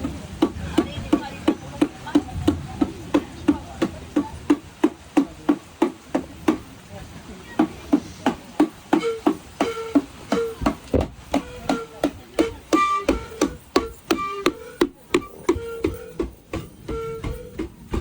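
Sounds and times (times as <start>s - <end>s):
drum beaten in steady rhythm: 0.0s - 18.0s.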